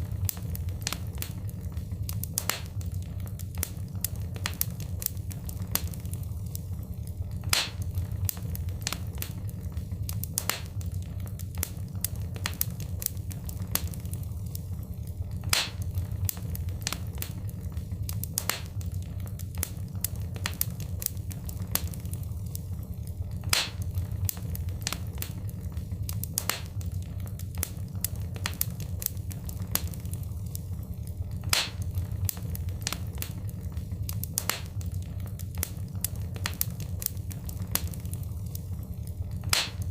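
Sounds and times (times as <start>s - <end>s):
fireplace fire crackling: 0.0s - 39.9s
low fire rumble: 0.0s - 39.9s
sharp pops of fire: 0.0s - 39.9s.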